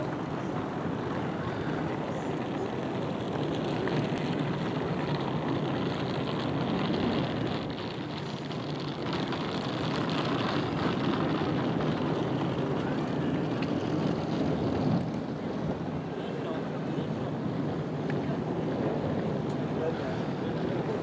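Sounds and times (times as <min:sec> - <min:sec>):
low rushing outdoor hum: 0:00.0 - 0:21.0.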